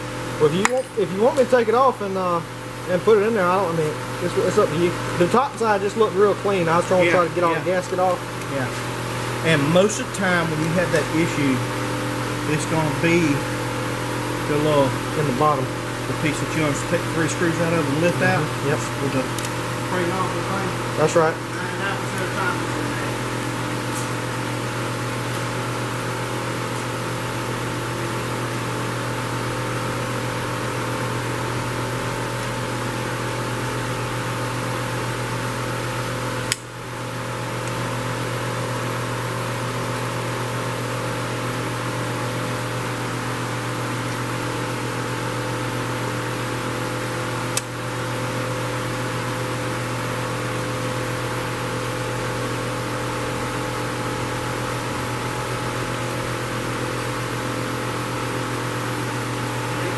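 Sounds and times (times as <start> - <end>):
electric fan humming: 0.0 - 59.9.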